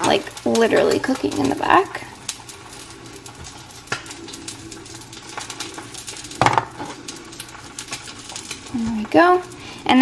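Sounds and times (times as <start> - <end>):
egg crackling in pan: 0.0 - 10.0.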